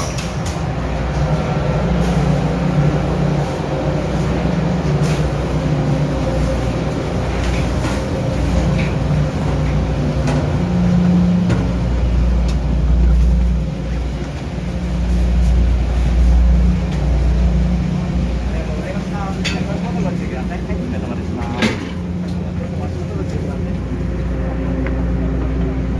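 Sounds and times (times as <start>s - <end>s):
heavy engine rumbling: 0.0s - 25.9s.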